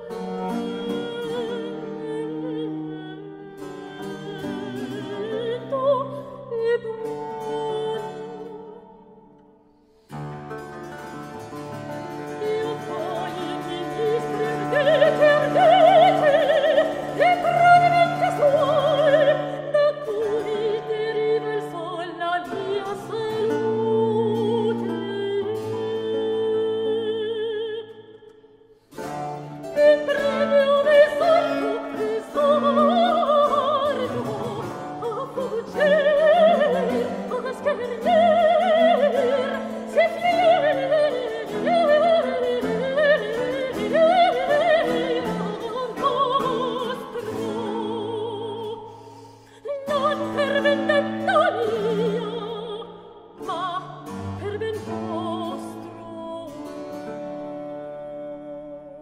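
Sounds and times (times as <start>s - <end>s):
soprano singing with vibrato: 0.0s - 9.2s, 11.7s - 28.3s, 29.2s - 59.0s
cello: 0.0s - 59.0s.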